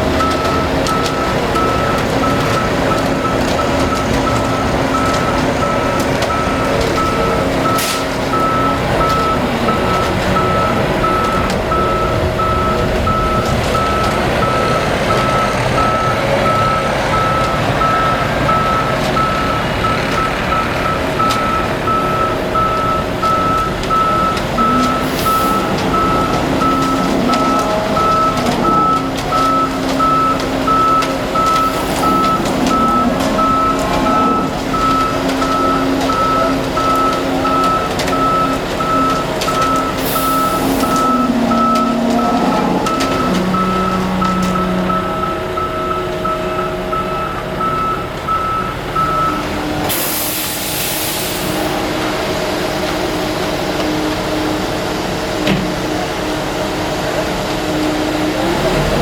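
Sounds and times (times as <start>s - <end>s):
truck reverse alarm beeping: 0.0s - 56.0s
truck engine running: 0.0s - 59.0s.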